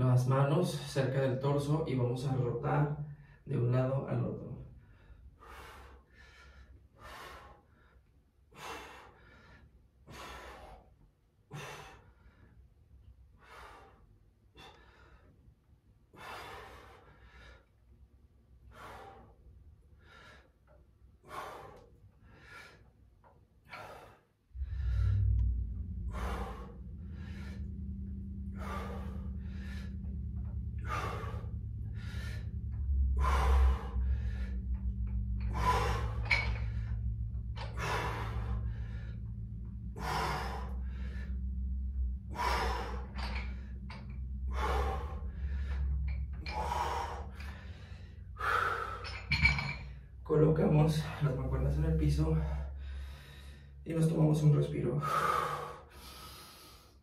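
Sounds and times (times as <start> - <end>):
steady low hum: 0.0 - 57.0
person breathing hard: 4.6 - 50.2, 52.2 - 53.8, 55.0 - 57.0.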